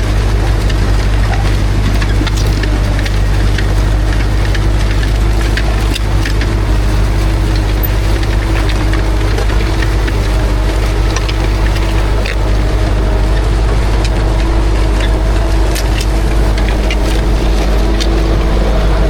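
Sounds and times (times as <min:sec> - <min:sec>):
light clicks and rattles: 0:00.0 - 0:19.0
tractor diesel engine running: 0:00.0 - 0:19.0.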